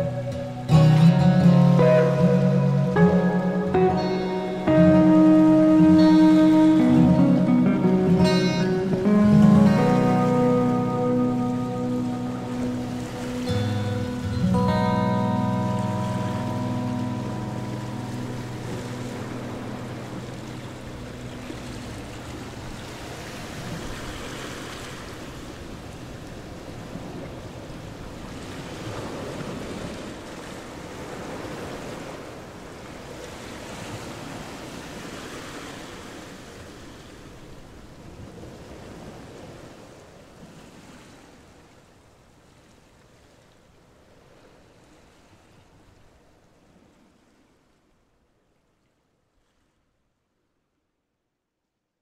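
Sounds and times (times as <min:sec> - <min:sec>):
sea surf: 0:00.0 - 0:47.8
wind: 0:00.0 - 0:52.0.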